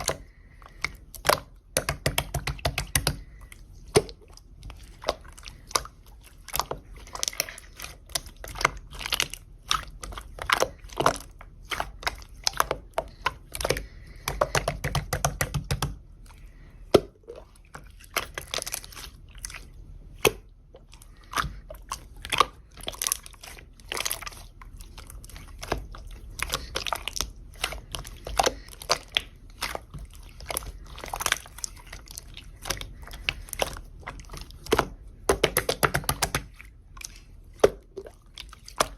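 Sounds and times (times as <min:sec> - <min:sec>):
slime squishing by hand: 0:00.0 - 0:38.9
wet squelch: 0:00.0 - 0:38.9.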